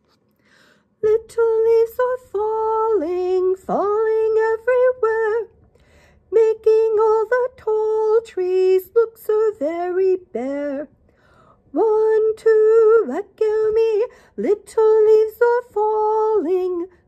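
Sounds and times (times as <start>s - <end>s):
woman singing unaccompanied: 1.0s - 5.6s, 6.3s - 11.0s, 11.7s - 17.0s.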